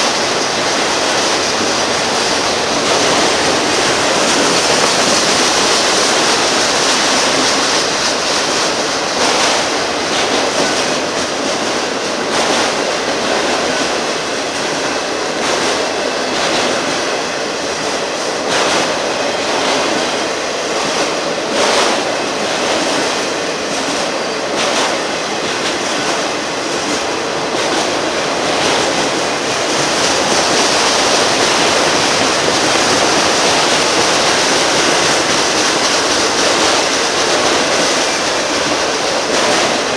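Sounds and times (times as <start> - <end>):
train wheels rumbling on rail: 0.0 - 39.9
wheels clacking over rail joint: 0.0 - 39.9.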